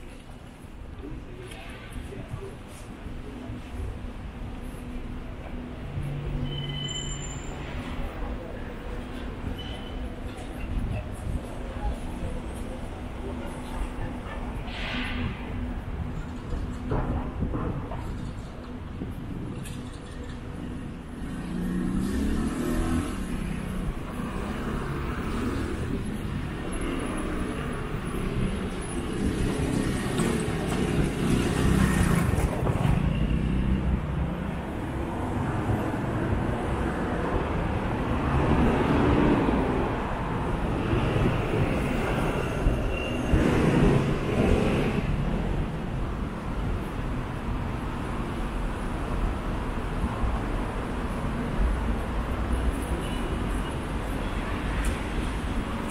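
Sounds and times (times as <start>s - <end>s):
road traffic rumble: 0.0s - 55.9s.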